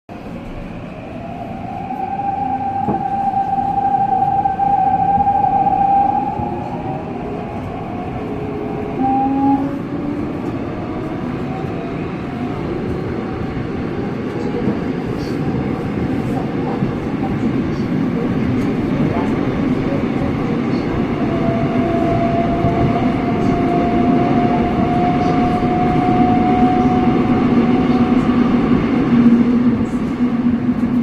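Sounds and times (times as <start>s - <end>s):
high train whine: 0.1s - 31.0s
subway train rumble: 0.1s - 31.0s.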